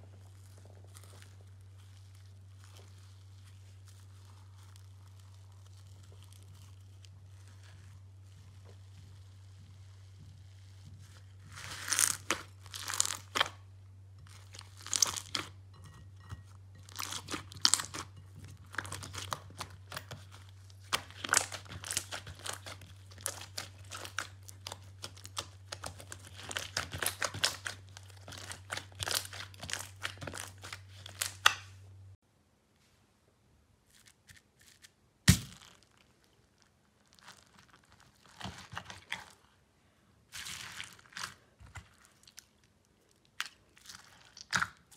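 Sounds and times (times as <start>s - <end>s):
slime squishing and crackling: 0.0s - 31.7s, 33.9s - 39.6s, 40.3s - 44.9s.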